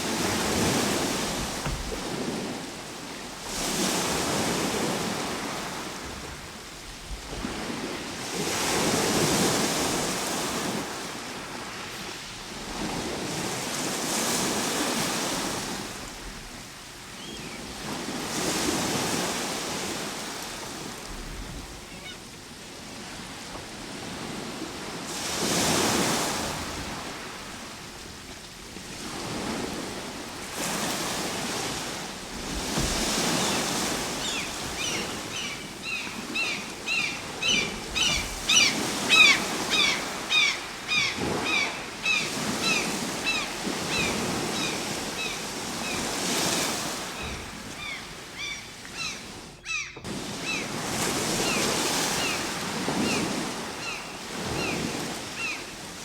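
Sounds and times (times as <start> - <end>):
ocean surf breaking: 0.0 - 16.6, 17.7 - 48.4.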